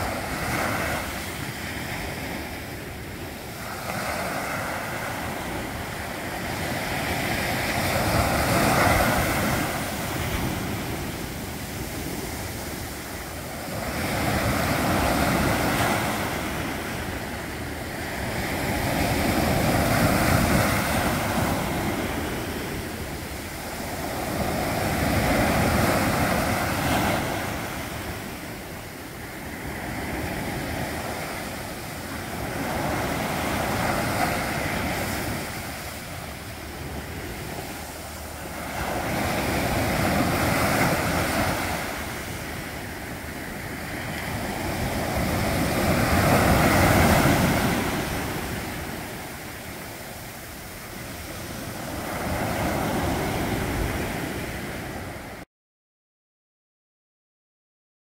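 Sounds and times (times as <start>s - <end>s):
sea waves breaking on beach: 0.0s - 55.4s.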